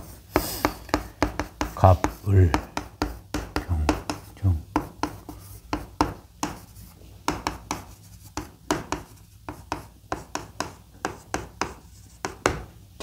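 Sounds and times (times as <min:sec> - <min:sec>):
chalk tapping and scratching: 0:00.0 - 0:12.8.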